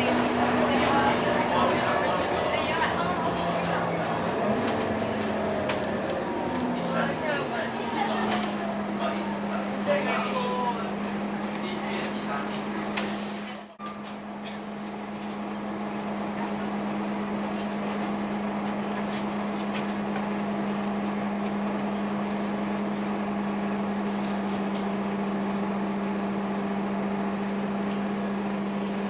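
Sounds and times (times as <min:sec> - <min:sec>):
bus cabin noise: 0:00.0 - 0:29.0.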